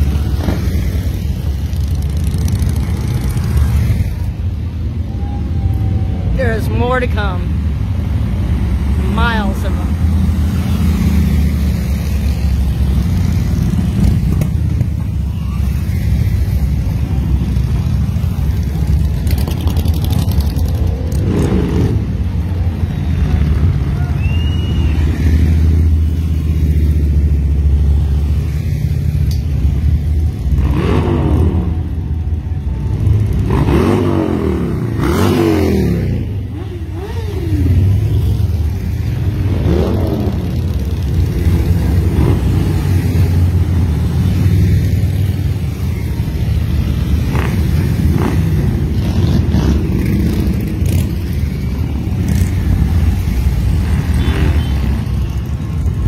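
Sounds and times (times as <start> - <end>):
motorcycle engines droning: 0.0 - 56.0
motorcycle engines revving: 0.0 - 56.0.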